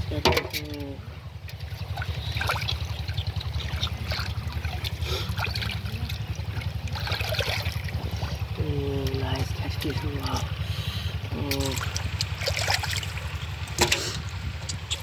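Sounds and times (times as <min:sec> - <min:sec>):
muddy water splashing: 0:00.0 - 0:15.0
steady low rumble: 0:00.0 - 0:15.0.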